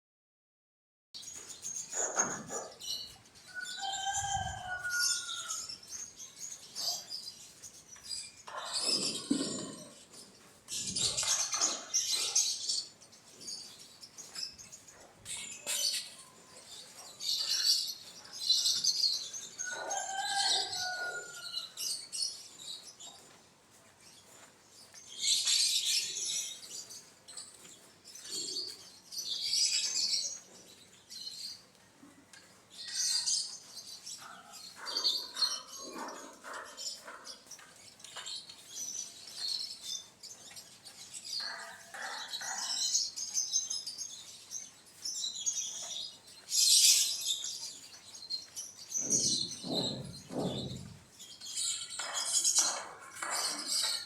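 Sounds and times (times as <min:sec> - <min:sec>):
birds twittering: 0:01.2 - 0:23.4, 0:24.0 - 0:54.0.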